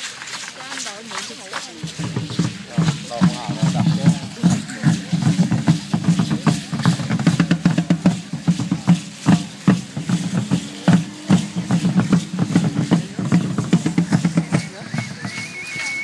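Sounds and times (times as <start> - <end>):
deep drum beating fast: 1.8 - 15.2.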